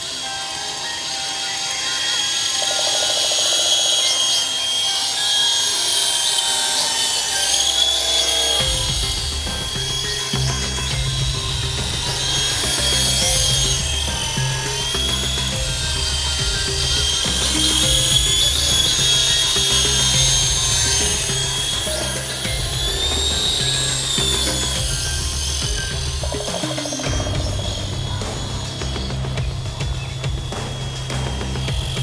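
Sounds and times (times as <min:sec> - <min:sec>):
toy helicopter motor whine: 0:00.0 - 0:32.0
background music with beat: 0:05.2 - 0:32.0.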